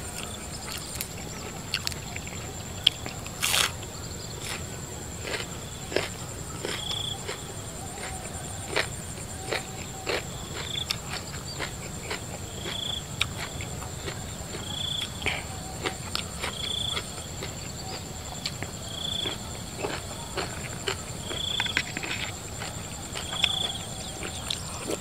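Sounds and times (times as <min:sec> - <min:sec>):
crickets chirring: 0:00.0 - 0:25.0
person chewing and lip smacking: 0:00.1 - 0:03.8, 0:05.2 - 0:25.0.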